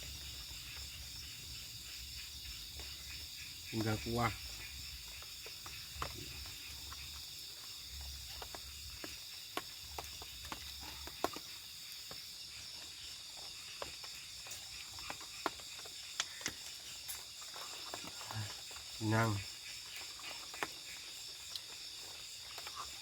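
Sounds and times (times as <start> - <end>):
night insects chirping: 0.0 - 23.0.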